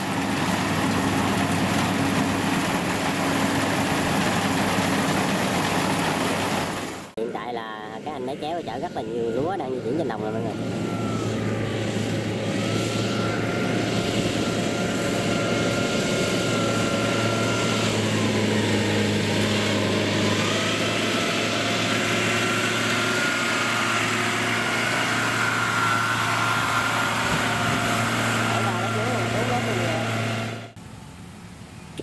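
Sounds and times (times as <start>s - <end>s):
tracked carrier engine running: 0.0s - 31.6s
high-pitched whine: 0.0s - 32.0s.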